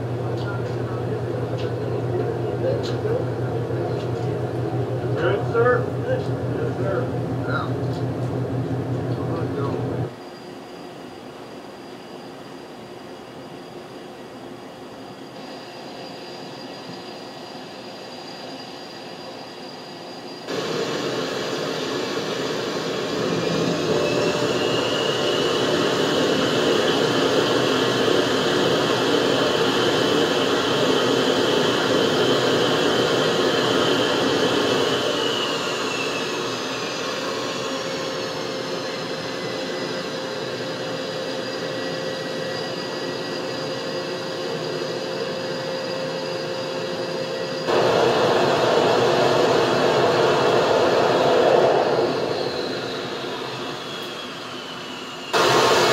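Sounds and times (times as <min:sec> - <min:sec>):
jet engines whining: 0:00.0 - 0:55.9.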